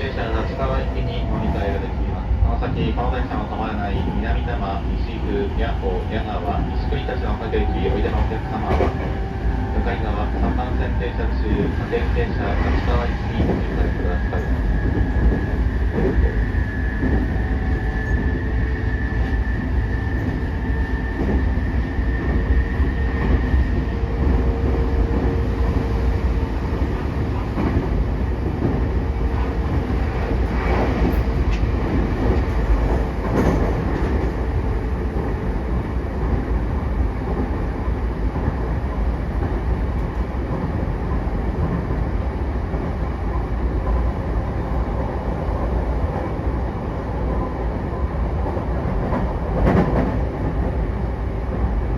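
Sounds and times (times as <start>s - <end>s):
high steady train whine: 0.0s - 51.9s
low steady train hum: 0.0s - 51.9s.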